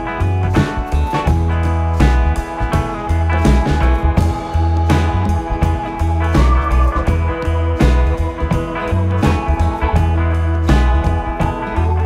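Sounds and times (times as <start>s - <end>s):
music with deep bass and beat: 0.0s - 12.0s.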